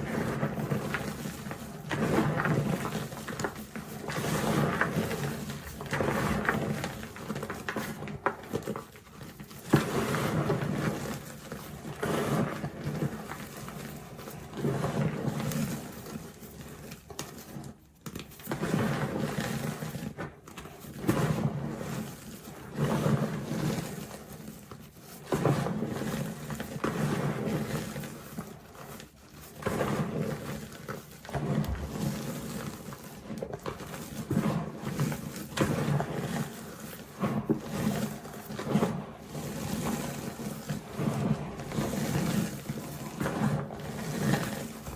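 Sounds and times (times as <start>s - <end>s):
chalk crunching and crumbling: 0.0s - 44.9s.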